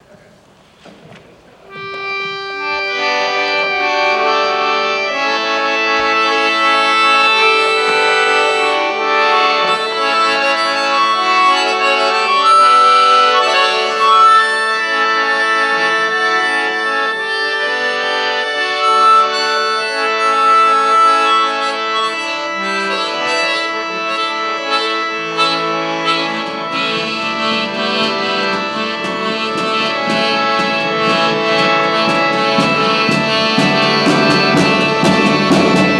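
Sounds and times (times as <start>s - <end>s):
instrumental music with melody: 1.7s - 35.9s.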